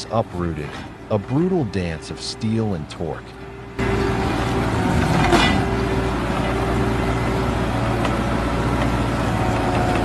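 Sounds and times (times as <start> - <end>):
heavy machine engine humming: 0.0 - 10.0.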